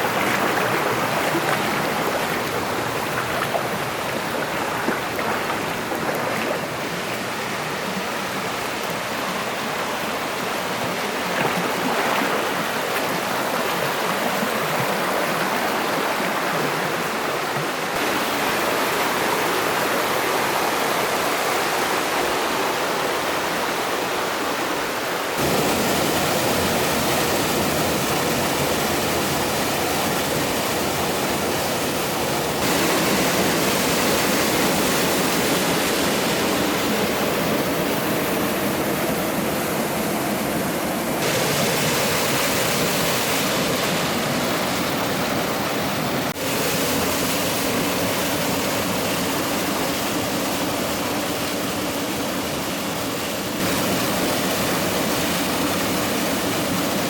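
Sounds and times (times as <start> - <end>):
rushing water of a stream: 0.0 - 57.0.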